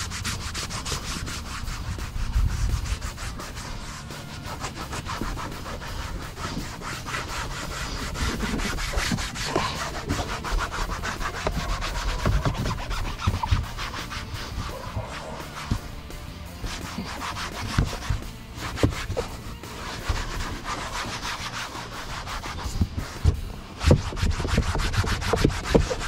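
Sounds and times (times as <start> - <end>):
low steady rumble: 0.0 - 21.0
brisk scrubbing: 0.0 - 26.0.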